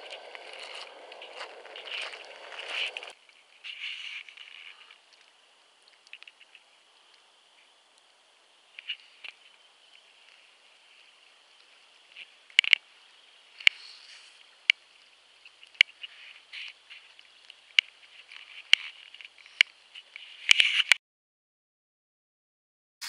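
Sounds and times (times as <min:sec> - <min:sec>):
faint frog chorus: 0:00.0 - 0:20.8
frogs peeping: 0:00.0 - 0:20.8.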